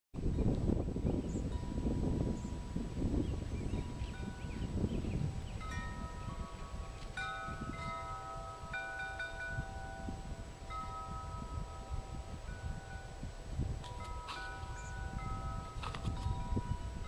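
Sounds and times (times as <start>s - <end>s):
wind rumble on microphone: 0.2s - 17.0s
wind chimes ringing: 1.2s - 17.0s.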